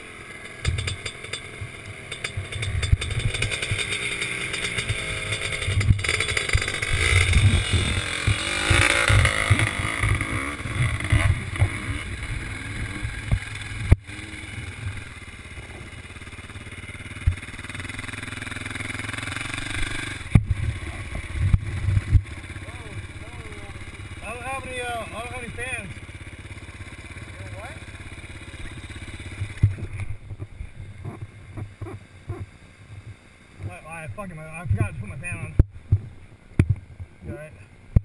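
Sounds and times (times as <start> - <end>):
dirt bike engine revving: 0.0 - 36.1.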